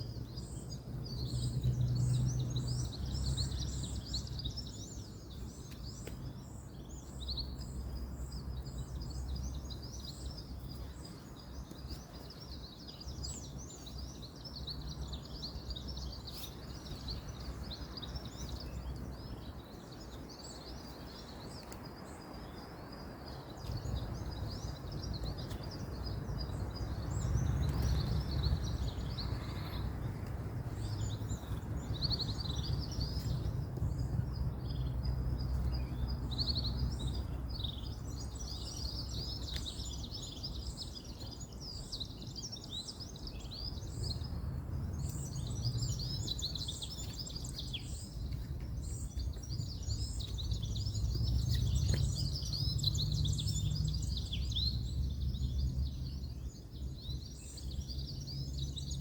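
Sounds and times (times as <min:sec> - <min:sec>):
distant road traffic rumble: 0:00.0 - 0:59.0
small birds chirping: 0:00.0 - 0:59.0.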